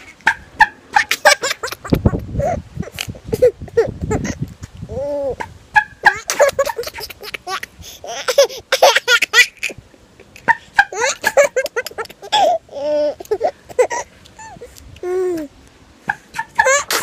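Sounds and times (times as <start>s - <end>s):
baby laughing: 0.9s - 15.5s, 16.1s - 17.0s.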